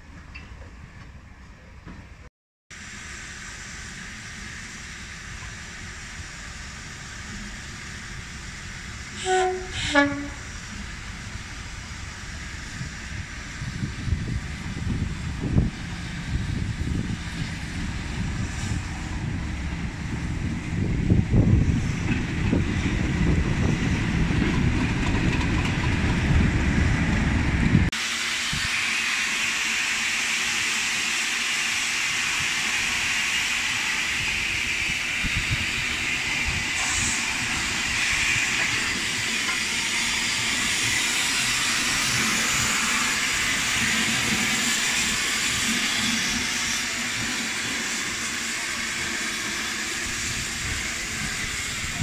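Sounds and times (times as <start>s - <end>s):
diesel locomotive engine rumbling: 0.0s - 52.0s
steam hissing from locomotive: 2.7s - 27.0s, 27.6s - 52.0s.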